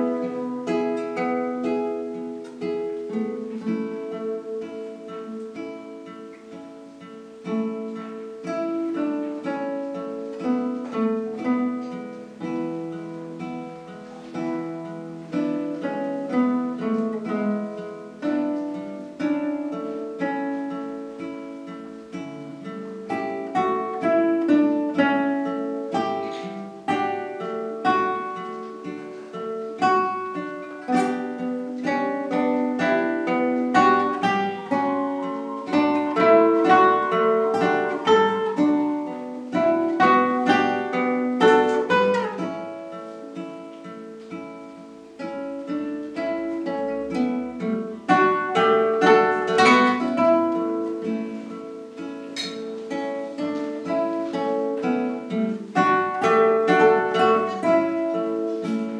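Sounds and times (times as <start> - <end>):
classical guitar duet: 0.0 - 58.9.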